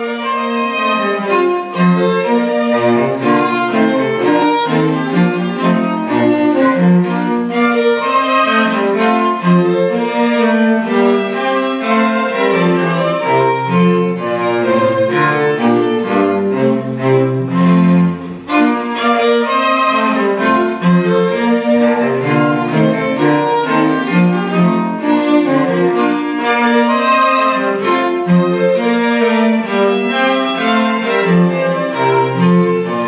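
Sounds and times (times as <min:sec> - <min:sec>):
string quartet playing: 0:00.0 - 0:33.0.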